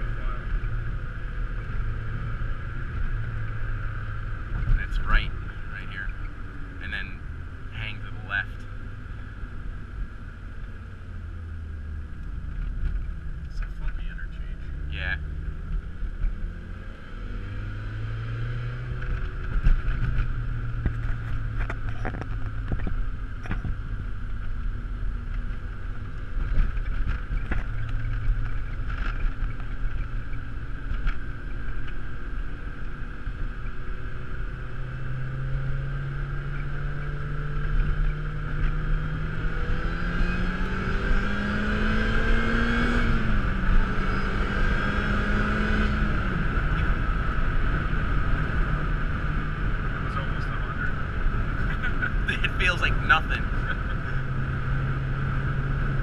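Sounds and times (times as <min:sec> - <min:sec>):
car engine accelerating: 0:00.0 - 0:56.0
road noise: 0:00.0 - 0:56.0.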